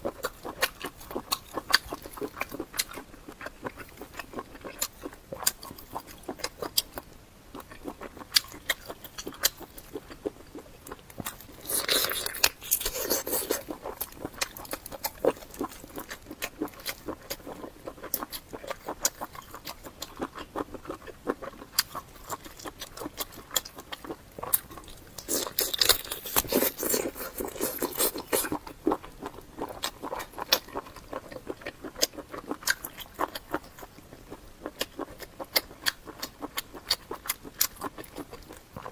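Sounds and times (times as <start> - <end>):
close chewing and crunchy bites: 0.0 - 38.9.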